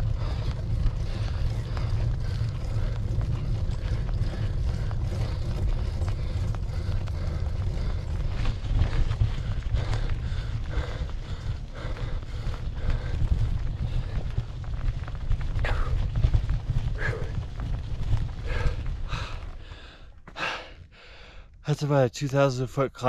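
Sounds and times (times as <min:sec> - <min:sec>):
light ticks and rattles: 0:00.0 - 0:20.0
wind buffeting microphone: 0:00.0 - 0:20.0
tyre noise on road: 0:00.0 - 0:20.8.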